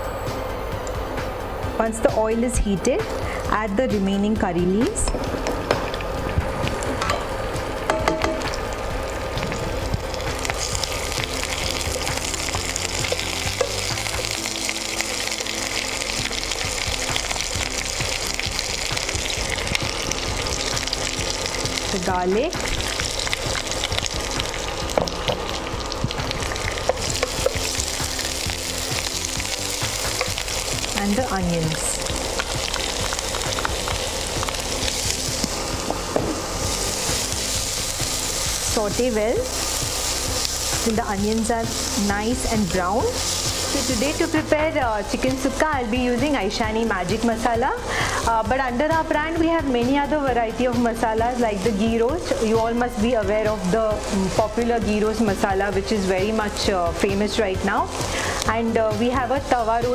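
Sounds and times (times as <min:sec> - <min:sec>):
leaves sizzling in hot oil: 0:01.9 - 0:59.9.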